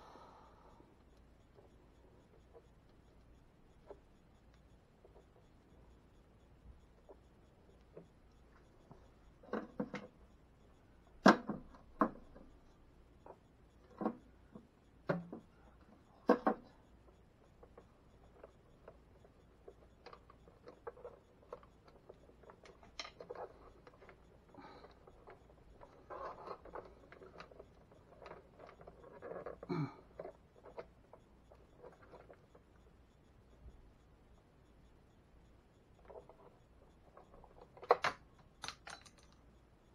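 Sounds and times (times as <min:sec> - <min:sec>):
wires and tools clicking: 0:01.0 - 0:33.6, 0:35.7 - 0:39.6.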